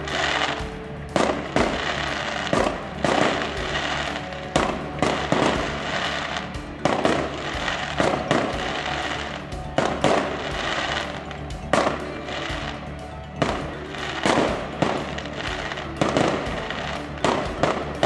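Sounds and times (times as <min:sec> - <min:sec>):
firework bangs: 0:00.0 - 0:18.0
firework crackle: 0:00.0 - 0:18.0
music: 0:00.0 - 0:18.0.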